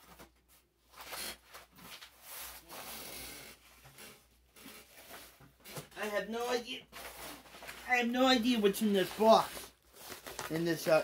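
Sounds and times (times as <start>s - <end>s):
package rustling and rubbing: 0.9s - 11.0s.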